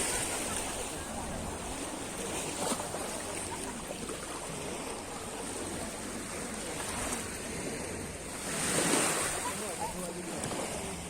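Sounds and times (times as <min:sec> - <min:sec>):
sea water rushing and splashing: 0:00.0 - 0:11.0.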